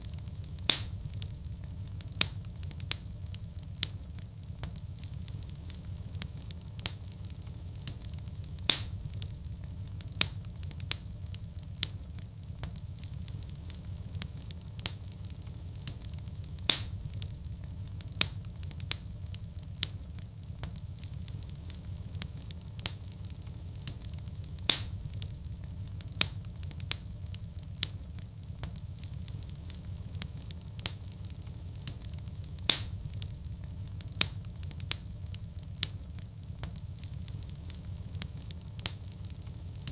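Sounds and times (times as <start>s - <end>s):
fire crackling: 0.0s - 39.9s
fire rumbling in fireplace: 0.0s - 39.9s
sharp fire pops: 0.0s - 39.9s.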